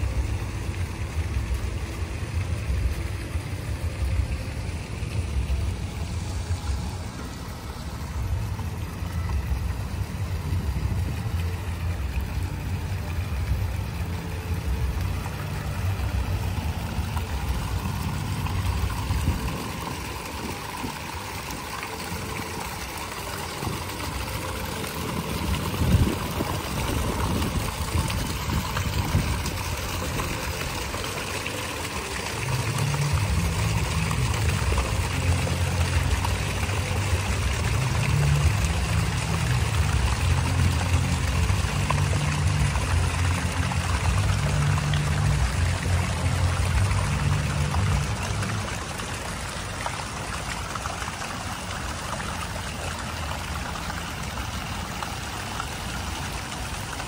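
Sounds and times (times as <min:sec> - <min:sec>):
fountain jets splashing: 0:00.0 - 0:57.0.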